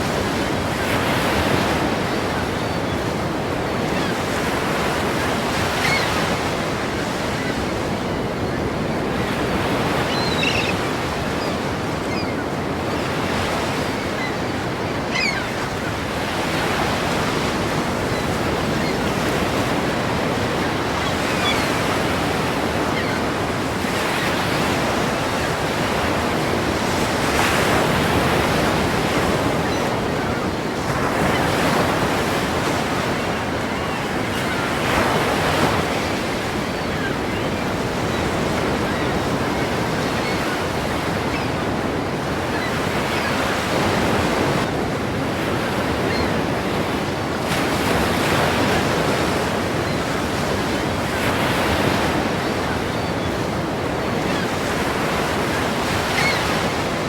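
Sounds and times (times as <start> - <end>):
ocean waves crashing: 0.0 - 57.0.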